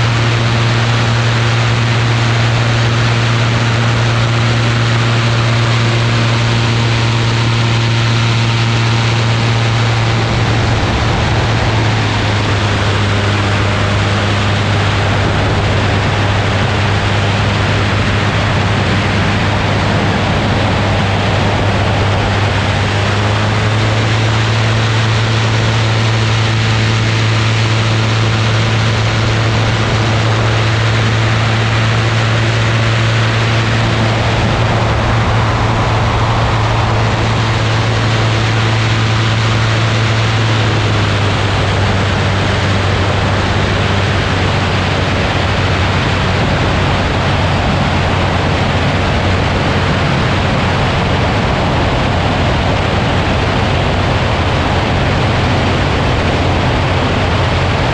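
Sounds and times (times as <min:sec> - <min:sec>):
light aircraft engine running: 0:00.0 - 0:57.9
wind rushing over microphone: 0:00.0 - 0:57.9.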